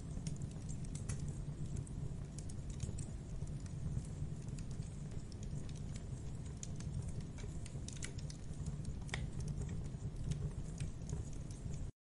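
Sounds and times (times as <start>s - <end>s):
campfire crackling and popping: 0.0s - 11.9s.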